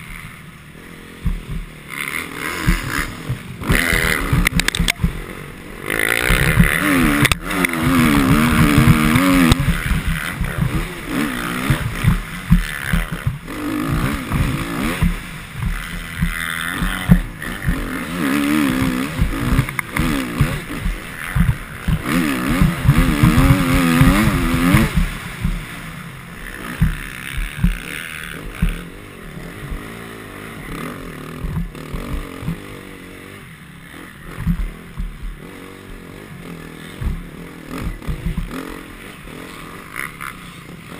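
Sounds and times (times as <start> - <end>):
rough low thumping: 0.0 - 40.5
motocross bike engine revving: 0.0 - 40.9.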